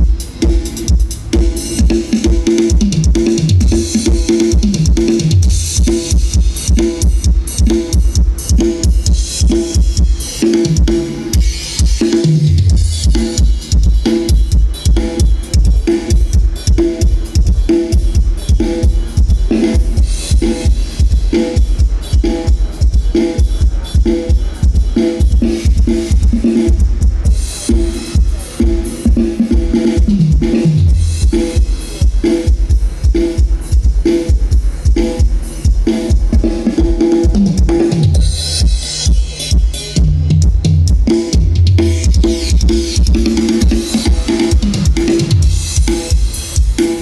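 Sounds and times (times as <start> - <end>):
dance music through subwoofers: 0.0 - 47.0
heavy kick drum: 0.0 - 47.0
pulsing bass line: 0.0 - 47.0.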